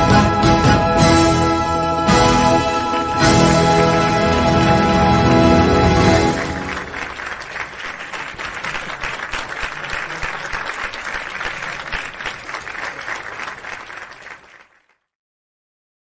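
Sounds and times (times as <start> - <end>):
crowd applause: 2.1 - 15.0.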